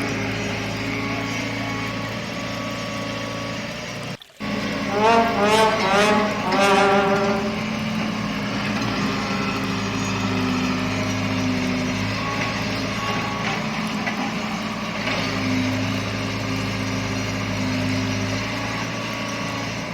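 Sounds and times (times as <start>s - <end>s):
excavator diesel engine running: 0.0s - 19.9s.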